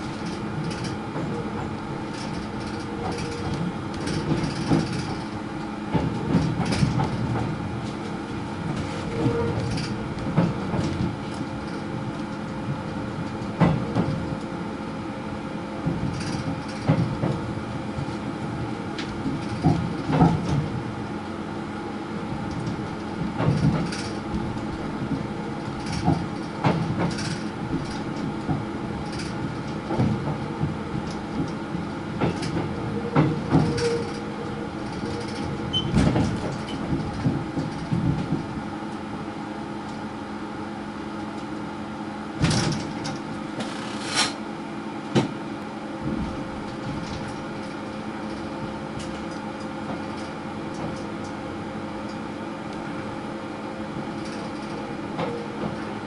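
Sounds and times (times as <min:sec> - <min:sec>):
train motor hum: 0:00.0 - 0:56.0.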